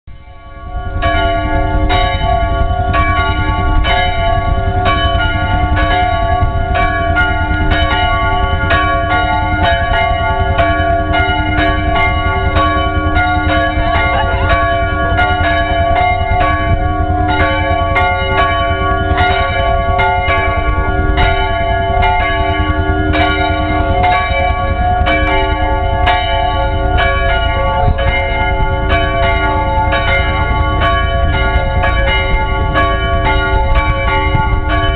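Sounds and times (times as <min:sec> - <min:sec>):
church bells pealing: 0:00.1 - 0:34.9
steady low rumble: 0:00.1 - 0:34.9.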